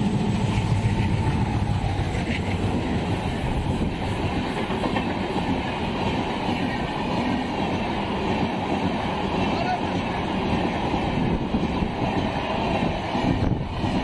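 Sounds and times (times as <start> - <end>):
diesel locomotive engine hum: 0.0 - 14.0
train wheels rumbling on rails: 0.0 - 14.0.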